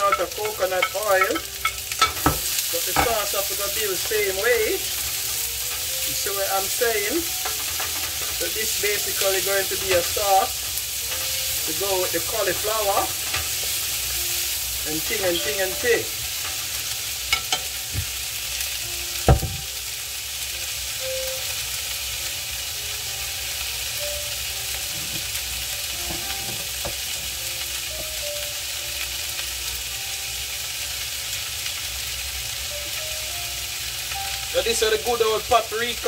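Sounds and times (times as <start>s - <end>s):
vegetables sizzling in frying pan: 0.0s - 36.0s.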